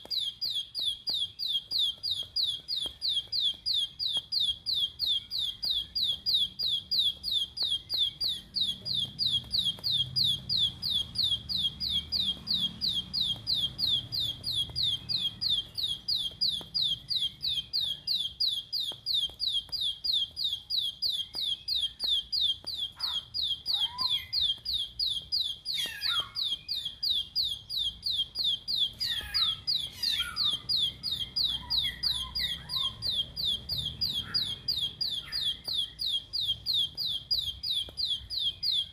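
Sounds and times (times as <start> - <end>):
bird singing high downward notes: 0.0 - 38.9
soft low bird chirps: 0.0 - 38.9.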